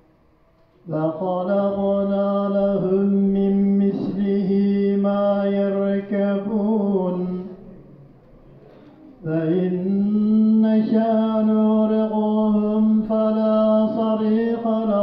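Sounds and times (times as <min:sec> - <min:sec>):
man chanting: 0:00.8 - 0:07.9, 0:09.2 - 0:15.0.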